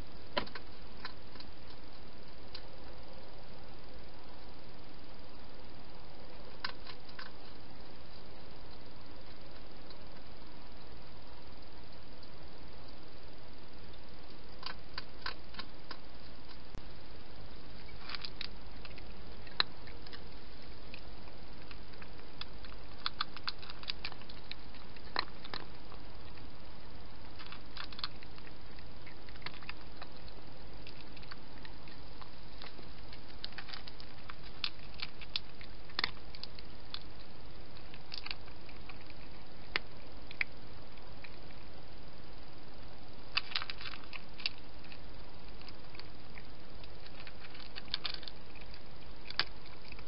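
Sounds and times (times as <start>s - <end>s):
steady background hiss: 0.0s - 50.0s
animals chewing with crunching clicks: 0.3s - 3.0s, 6.4s - 13.0s, 13.7s - 16.9s, 17.6s - 50.0s.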